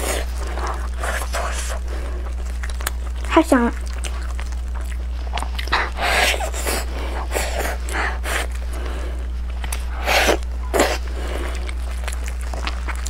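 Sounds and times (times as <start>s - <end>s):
low electrical hum: 0.0s - 13.0s
wet chewing and biting: 0.0s - 13.0s.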